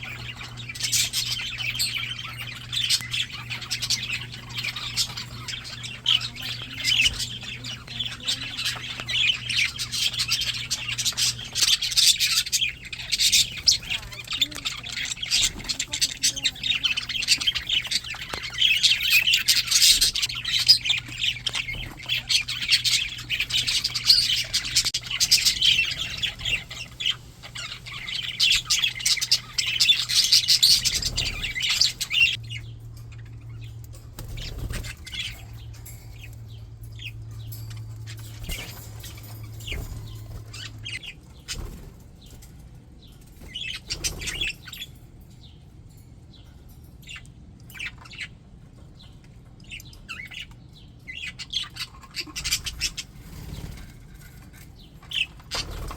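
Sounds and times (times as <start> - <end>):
budgies chattering and warbling: 0.0 - 55.9
faint low hum: 0.0 - 55.9.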